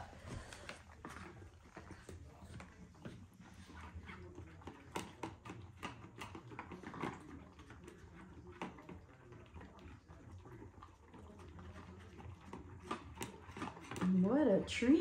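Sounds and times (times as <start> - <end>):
puppies licking and lapping: 0.0 - 15.0.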